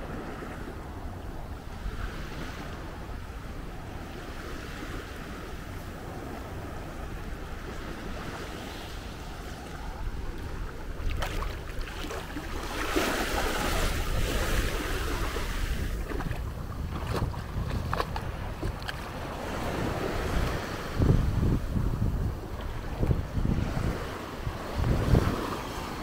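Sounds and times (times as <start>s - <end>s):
small waves washing up beach: 0.0s - 26.0s
wind rumbling on microphone: 0.0s - 26.0s.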